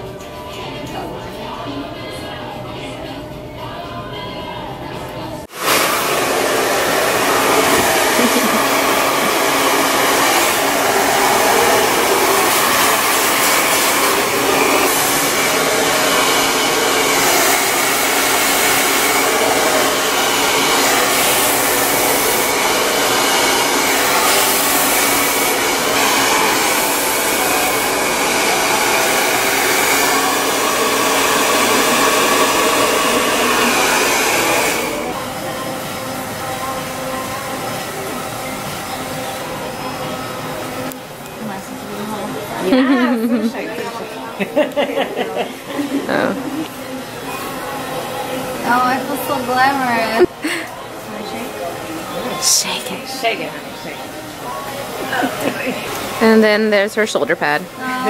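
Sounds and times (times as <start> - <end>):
hair dryer blowing: 5.5 - 58.0.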